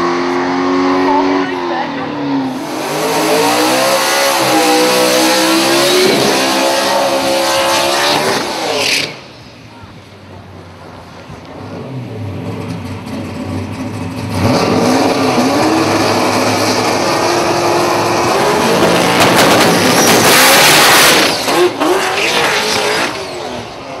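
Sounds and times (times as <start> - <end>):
pickup engine revving: 0.0 - 9.4, 11.5 - 23.8.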